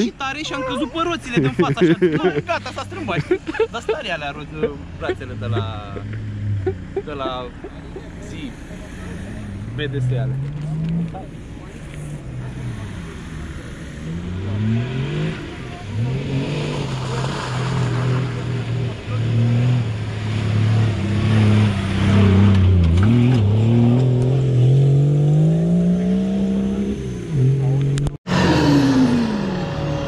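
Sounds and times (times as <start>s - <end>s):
off-road engine revving: 0.0s - 30.0s.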